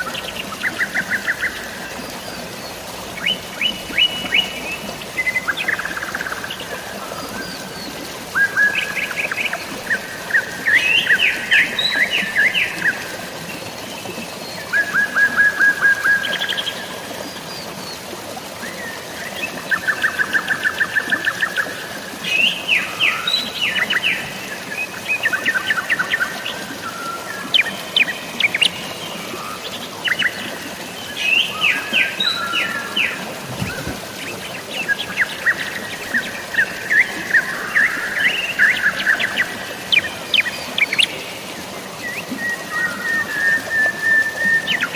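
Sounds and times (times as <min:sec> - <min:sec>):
rain hiss: 0:00.0 - 0:44.9
running water: 0:00.0 - 0:44.9.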